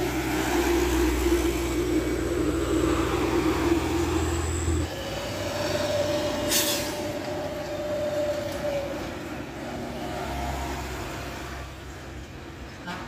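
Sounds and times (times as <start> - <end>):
trucks passing: 0.0 - 13.0.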